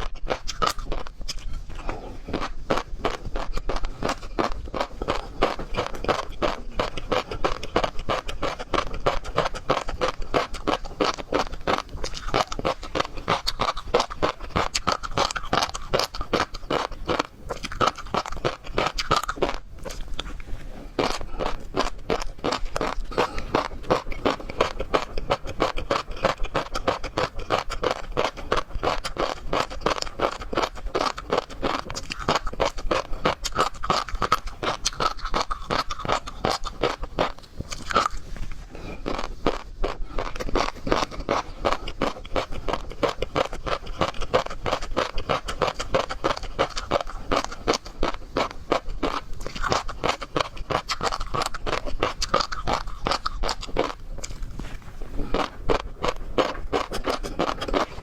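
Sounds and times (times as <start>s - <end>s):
wet chewing and crunching: 0.0s - 58.0s.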